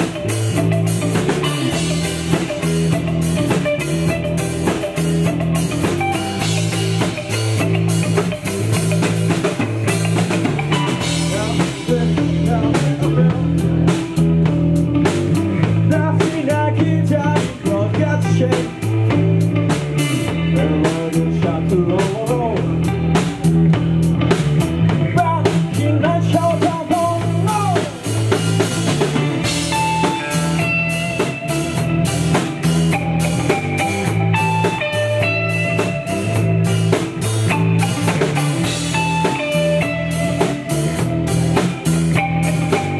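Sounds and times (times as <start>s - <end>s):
drum kit beat: 0.0s - 42.9s
electric bass: 0.0s - 42.9s
electric guitar: 0.0s - 42.9s.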